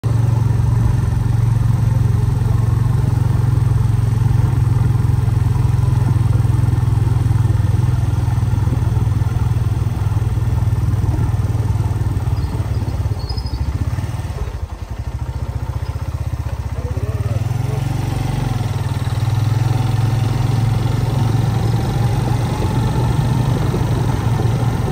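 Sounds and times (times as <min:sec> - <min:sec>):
low mechanical rumble: 0:00.0 - 0:24.9.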